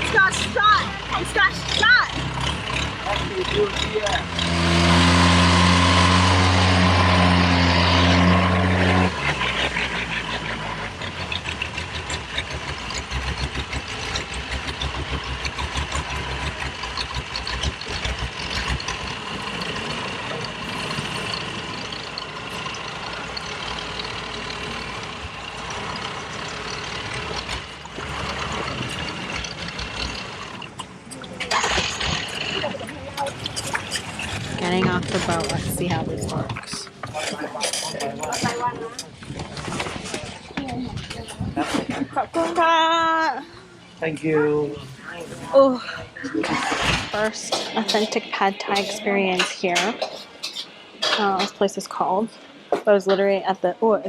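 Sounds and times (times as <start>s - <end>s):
motorboat engine running: 0.0s - 52.6s.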